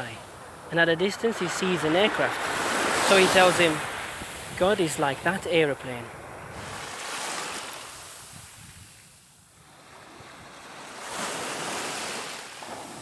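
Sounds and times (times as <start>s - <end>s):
small waves washing onto shore: 0.0s - 13.0s.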